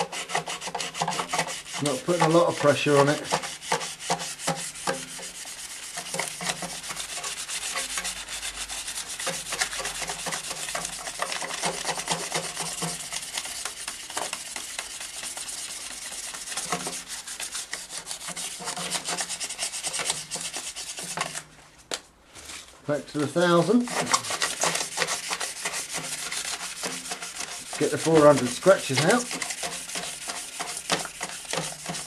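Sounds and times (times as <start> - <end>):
sandpaper rubbing on metal pipe: 0.0 - 21.5, 23.2 - 32.0.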